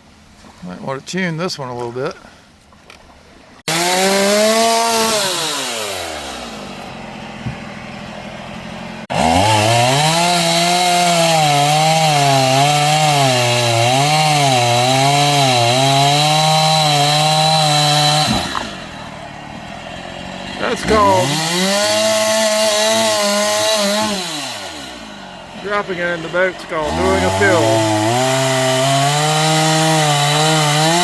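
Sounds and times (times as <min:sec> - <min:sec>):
chainsaw revving: 0:03.6 - 0:31.0.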